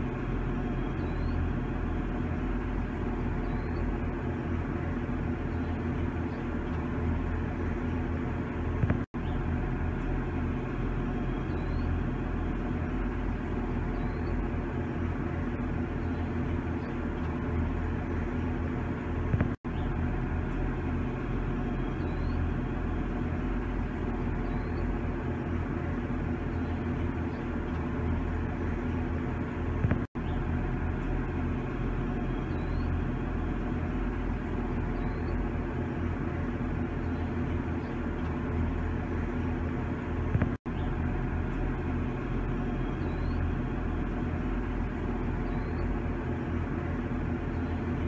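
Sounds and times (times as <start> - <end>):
low rumble: 0.0 - 48.0.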